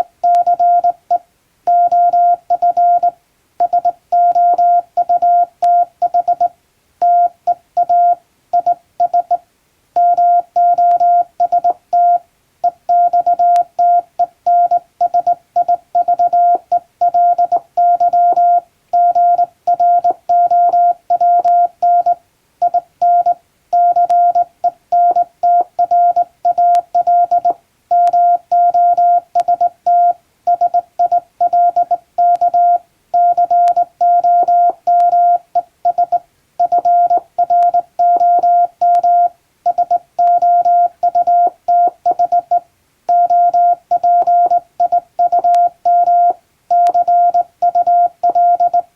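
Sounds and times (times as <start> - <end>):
morse code beeping: 1.7 - 9.4, 10.0 - 12.2, 12.9 - 48.9.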